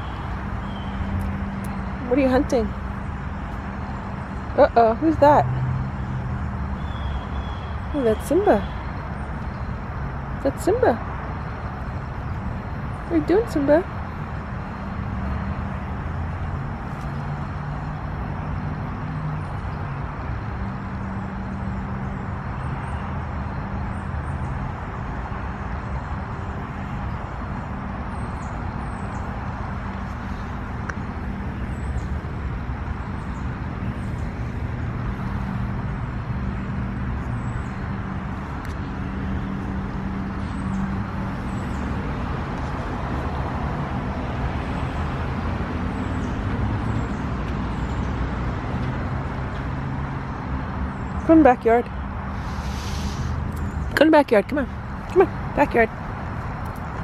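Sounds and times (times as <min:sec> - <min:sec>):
road traffic drone: 0:00.0 - 0:57.0.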